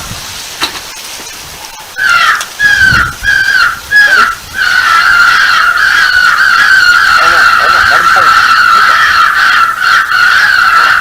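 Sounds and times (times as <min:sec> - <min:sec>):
crow cawing: 0:02.0 - 0:11.0.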